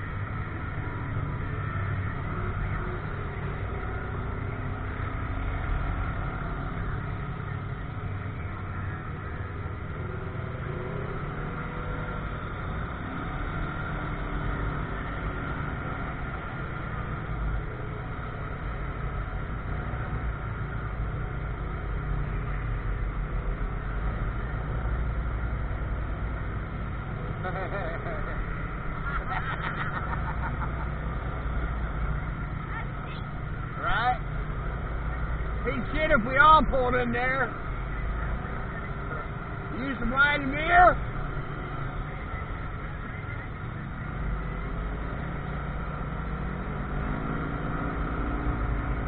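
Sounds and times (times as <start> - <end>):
vehicle driving slowly: 0.0 - 49.0.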